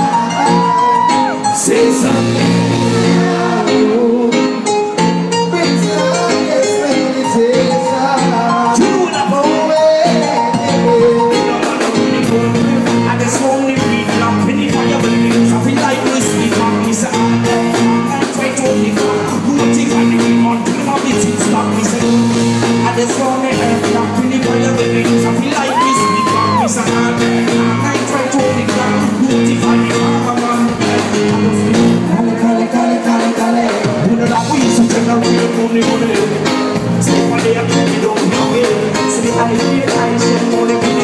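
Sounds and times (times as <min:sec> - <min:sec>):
live reggae band: 0:00.0 - 0:41.0
man singing: 0:00.0 - 0:41.0.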